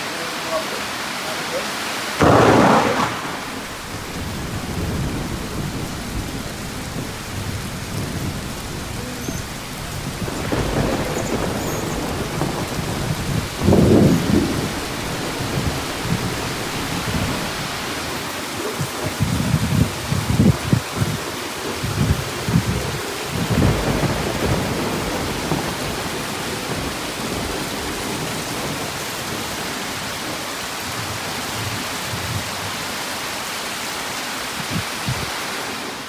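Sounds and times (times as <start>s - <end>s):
heavy rain falling: 0.0s - 36.0s
thunder rumbling: 2.2s - 32.7s.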